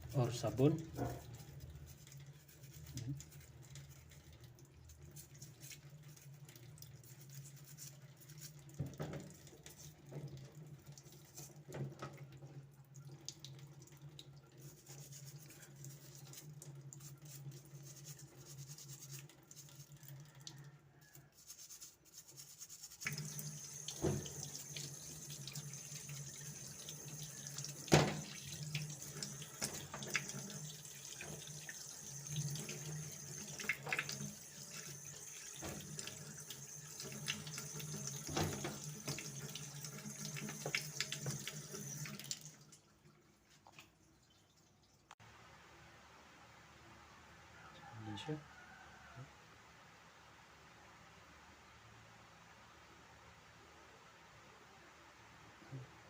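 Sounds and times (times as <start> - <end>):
tap water running in a sink: 0.0 - 45.2.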